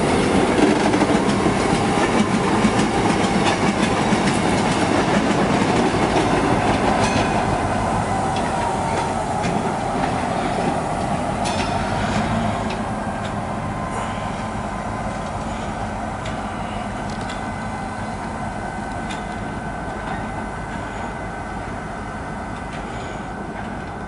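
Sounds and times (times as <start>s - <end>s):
locomotive engine and wheel rumble: 0.0s - 24.0s.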